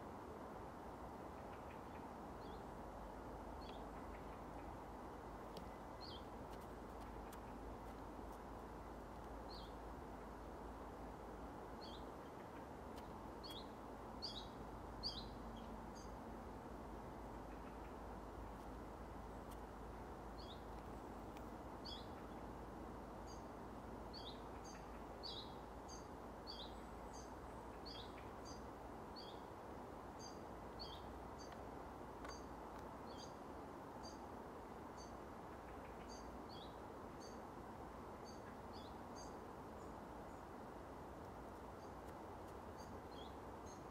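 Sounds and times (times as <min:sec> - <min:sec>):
background hiss: 0:00.0 - 0:43.9.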